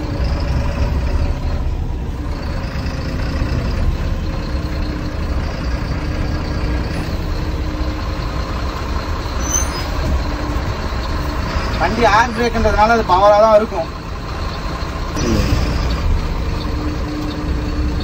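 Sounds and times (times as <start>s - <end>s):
diesel lorry engine drone: 0.0s - 18.0s.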